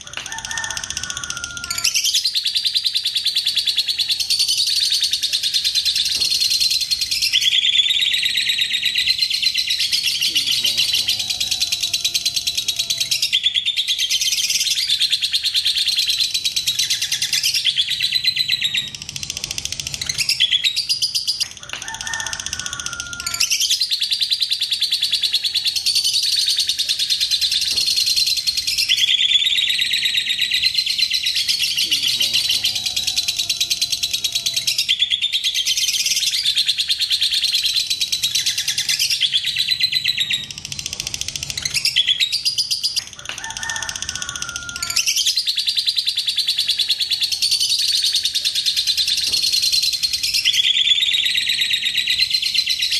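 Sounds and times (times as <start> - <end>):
lovebird ticking chatter: 0.0 - 52.9.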